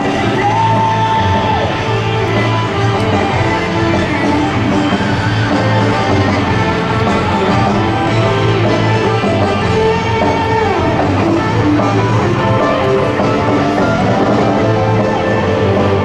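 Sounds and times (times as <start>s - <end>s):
guitar music: 0.0s - 16.0s.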